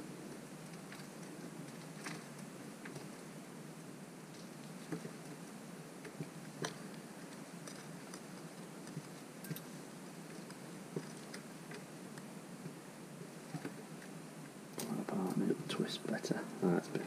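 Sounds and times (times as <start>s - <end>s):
steady low hiss: 0.0s - 17.0s
small clicks and rustling: 0.2s - 3.4s, 4.2s - 15.4s.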